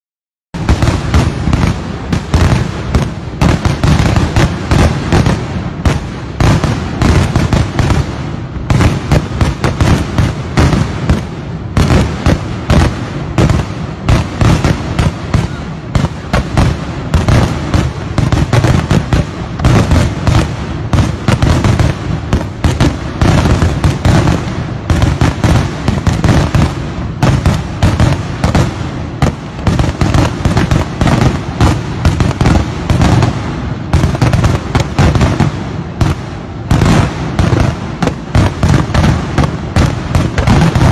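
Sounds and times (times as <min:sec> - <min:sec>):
fireworks exploding: 0:00.6 - 0:40.9.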